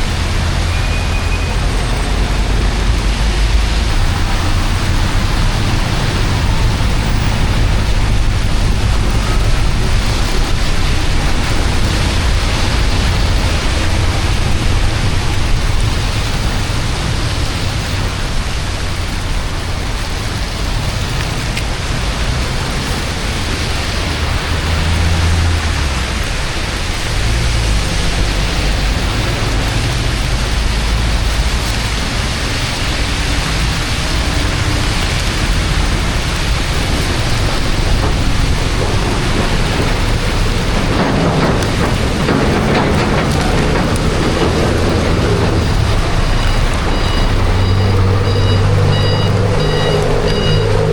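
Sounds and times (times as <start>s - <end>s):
deep rumble: 0.0s - 50.9s
water rushing: 0.0s - 50.9s.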